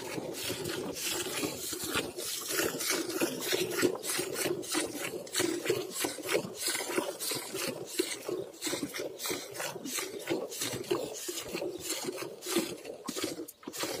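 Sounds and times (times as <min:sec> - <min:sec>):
milk squirting into bucket: 0:00.0 - 0:14.0.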